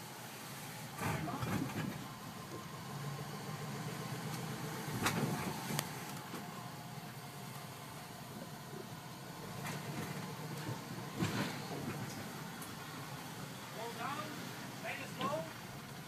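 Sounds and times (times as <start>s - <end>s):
car engine low hum: 0.0s - 16.0s.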